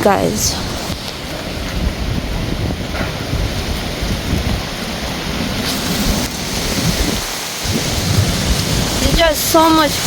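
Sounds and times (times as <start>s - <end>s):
heavy rain falling: 0.0s - 10.0s
strong wind gusting: 0.0s - 10.0s
wind rumbling on microphone: 0.0s - 10.0s.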